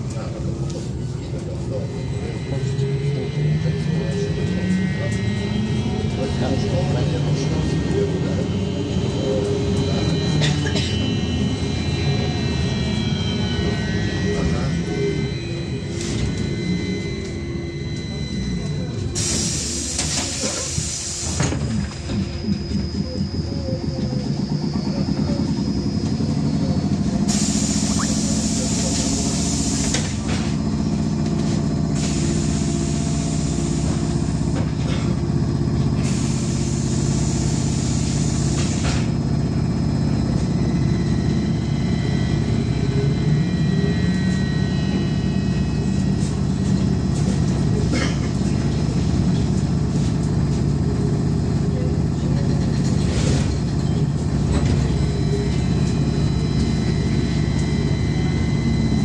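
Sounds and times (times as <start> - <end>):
trolleybus cabin rumble: 0.0 - 59.0.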